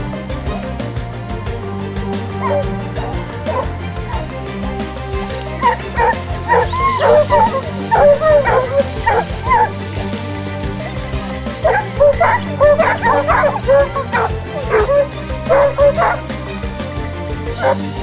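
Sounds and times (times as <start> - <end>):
background music: 0.0 - 18.0
hounds yelping and baying: 2.4 - 4.4, 5.0 - 18.0.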